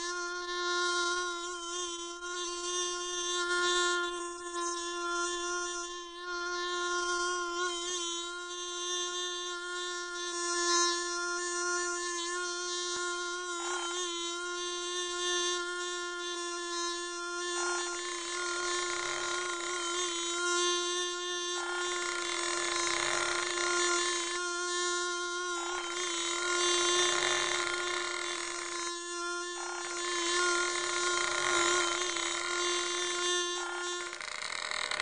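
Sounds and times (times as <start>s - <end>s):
bee buzzing: 0.0s - 35.0s.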